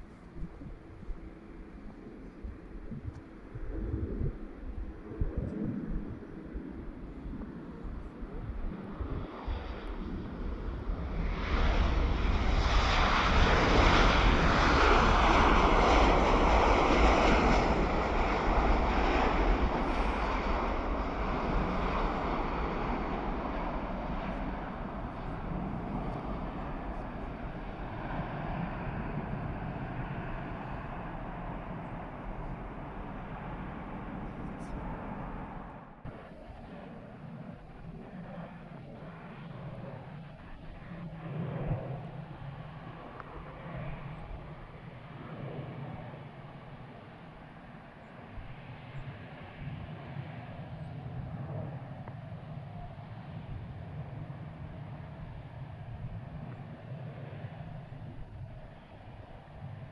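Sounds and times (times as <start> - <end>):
jet airliner passing: 0.0 - 59.9.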